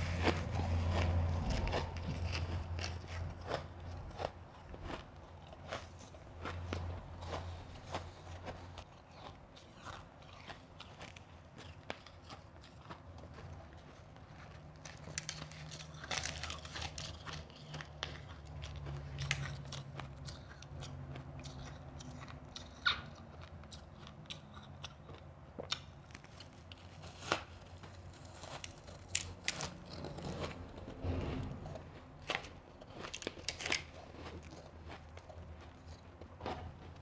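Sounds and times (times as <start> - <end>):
crunching and chewing ice: 0.0 - 37.0.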